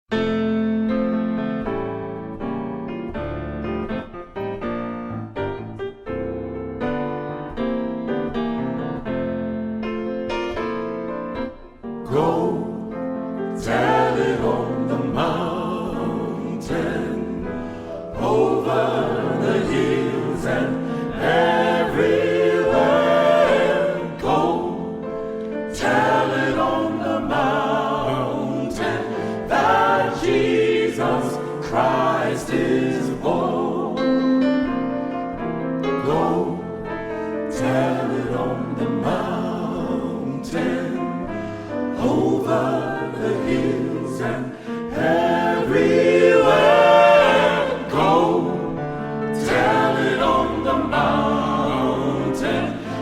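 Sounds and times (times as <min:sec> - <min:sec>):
gospel choir singing: 0:10.4 - 0:53.0.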